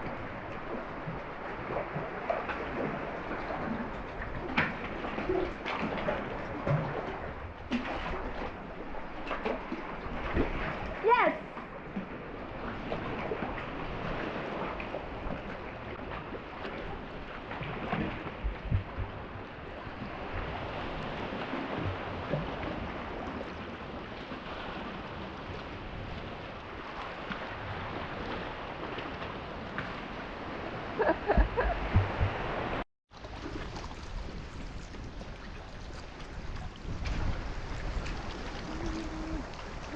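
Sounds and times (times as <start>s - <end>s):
paddle splashes and knocks: 0.0s - 39.9s
water sloshing around kayak: 0.0s - 39.9s.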